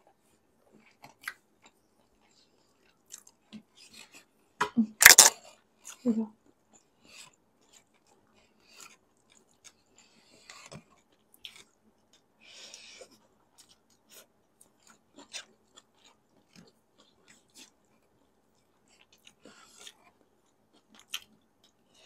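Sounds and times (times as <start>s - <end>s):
person chewing noodles: 0.8s - 4.3s, 5.0s - 22.0s.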